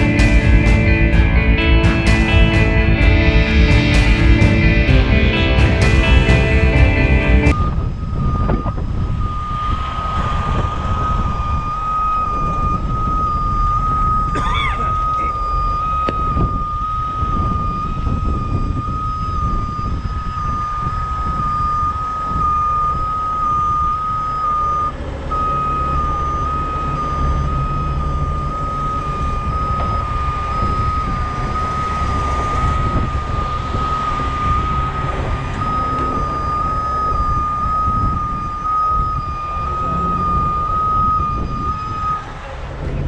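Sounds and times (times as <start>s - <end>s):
diesel engine running: 0.0s - 43.0s
vehicle backup alarm beeping: 0.0s - 43.0s.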